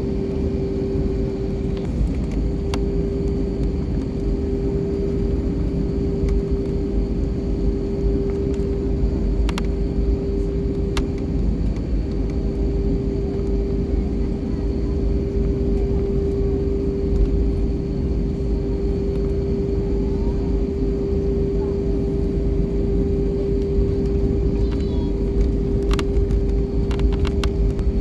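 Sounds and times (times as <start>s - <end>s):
airliner engines rumbling: 0.0s - 28.0s.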